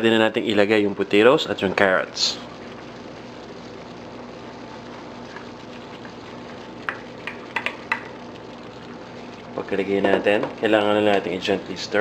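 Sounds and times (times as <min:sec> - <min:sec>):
stew simmering in a pan: 0:00.6 - 0:12.0.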